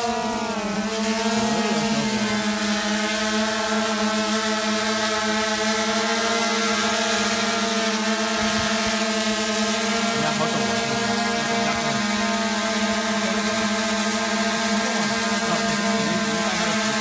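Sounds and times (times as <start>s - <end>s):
drone propellers humming: 0.0s - 17.0s.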